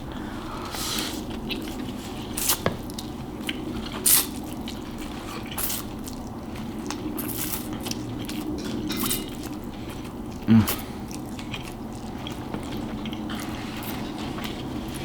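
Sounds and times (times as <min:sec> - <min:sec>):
wet chewing and mouth smacks: 0:01.2 - 0:15.0.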